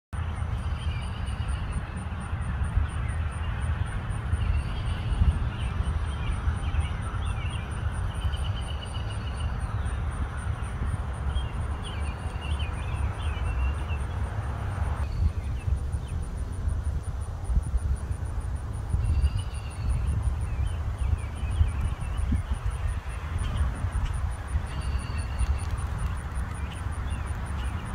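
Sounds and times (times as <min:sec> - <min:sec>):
birds chirping: 0:00.2 - 0:16.5, 0:17.4 - 0:27.9
pulsing insect call: 0:00.2 - 0:27.9
wind buffeting microphone: 0:00.2 - 0:27.9.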